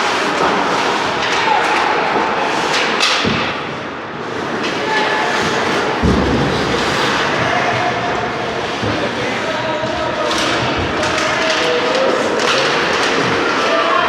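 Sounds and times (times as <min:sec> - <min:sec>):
ice rink and crowd noise: 0:00.0 - 0:14.0.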